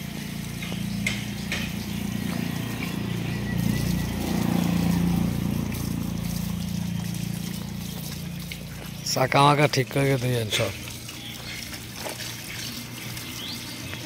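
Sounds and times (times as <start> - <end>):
hose water spraying and splashing: 0.0 - 14.0.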